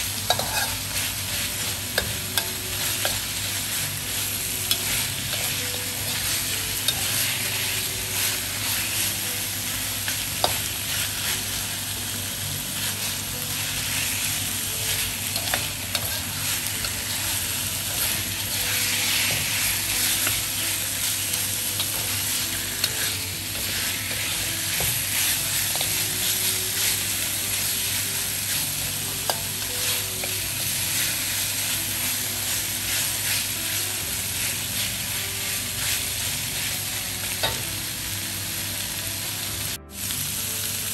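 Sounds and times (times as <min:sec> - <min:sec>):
meat sizzling in a wok: 0:00.0 - 0:40.9.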